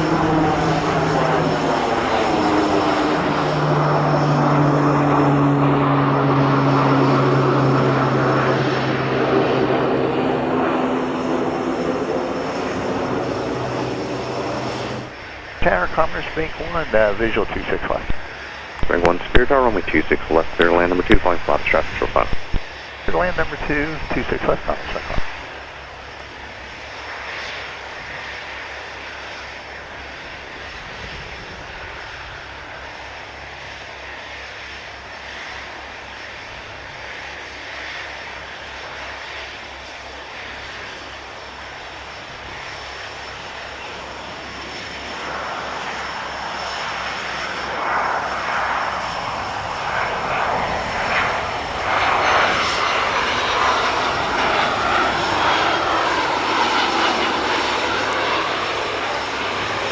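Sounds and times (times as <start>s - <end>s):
jet engines approaching: 0.0s - 59.9s.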